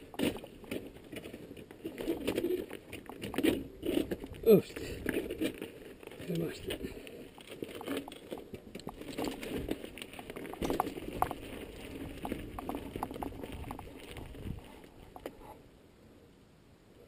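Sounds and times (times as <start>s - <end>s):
bike knocking over rocks: 0.0s - 15.4s
bike tyres crunching on stones: 0.0s - 15.5s.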